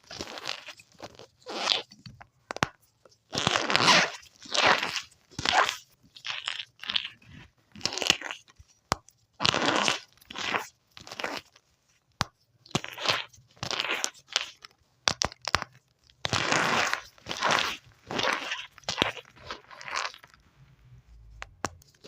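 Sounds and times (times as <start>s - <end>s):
crunchy material being crushed: 0.0s - 11.6s, 12.2s - 20.4s.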